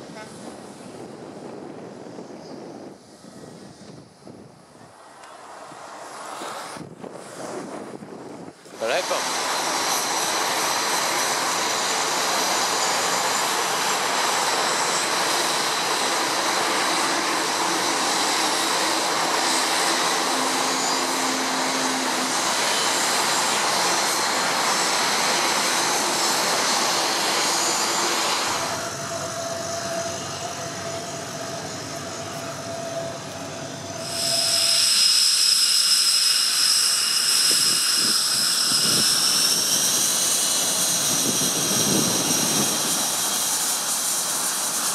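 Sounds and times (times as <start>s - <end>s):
jet engine high-pitched whine: 0.0s - 44.9s
turboprop engines running: 0.0s - 44.9s.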